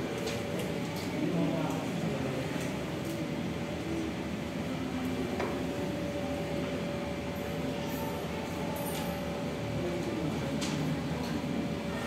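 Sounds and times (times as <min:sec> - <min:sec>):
room hum: 0:00.0 - 0:12.0
thin steady whine: 0:00.0 - 0:12.0.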